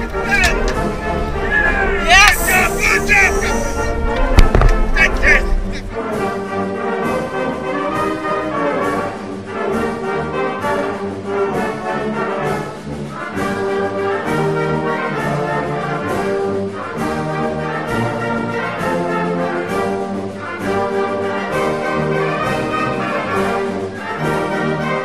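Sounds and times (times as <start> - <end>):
brass-led orchestral music: 0.0 - 25.0.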